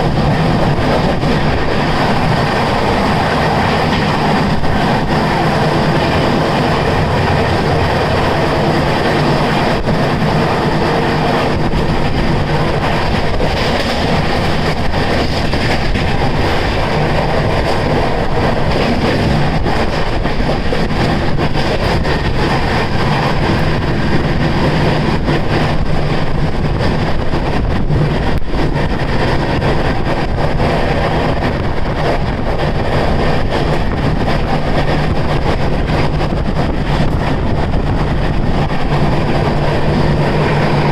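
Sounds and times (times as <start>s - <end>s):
moving vehicle rumble: 0.0s - 40.9s.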